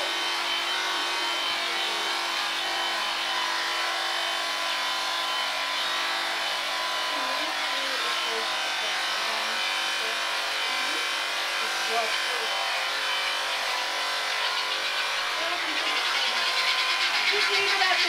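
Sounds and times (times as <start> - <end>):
electric shearing handpiece hum: 0.0 - 18.0.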